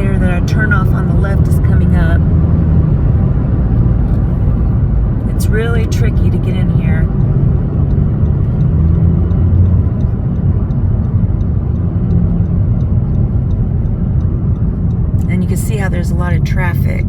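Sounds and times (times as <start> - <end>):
car road and engine rumble: 0.0 - 17.0
faint regular ticking: 0.0 - 17.0.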